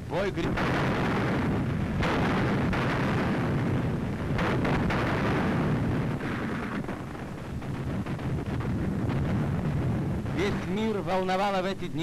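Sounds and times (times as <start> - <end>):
heavy artillery rumble: 0.0 - 12.0
shell burst bang: 0.4 - 11.0.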